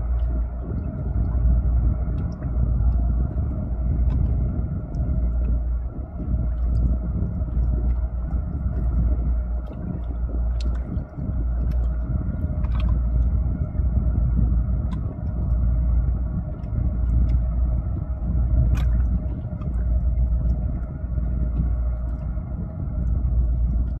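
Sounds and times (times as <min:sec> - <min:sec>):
marine engine rumbling: 0:00.0 - 0:24.0.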